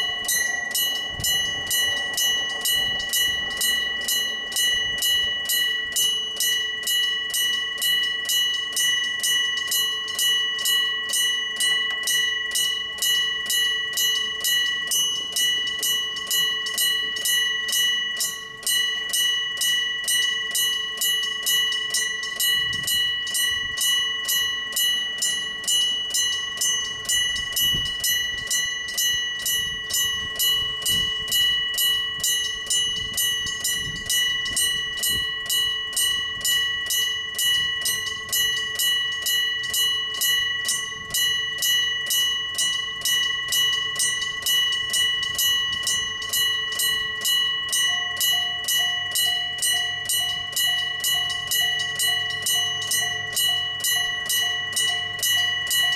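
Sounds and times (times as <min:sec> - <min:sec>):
low hum: 0:00.0 - 0:55.9
railroad crossing bell ringing: 0:00.0 - 0:55.9.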